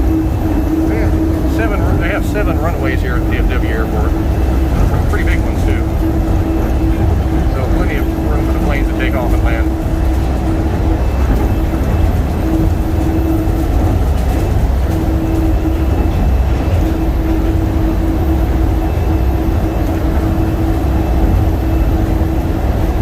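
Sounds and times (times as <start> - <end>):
humming tone: 0.0 - 23.0
train car rumble: 0.0 - 23.0.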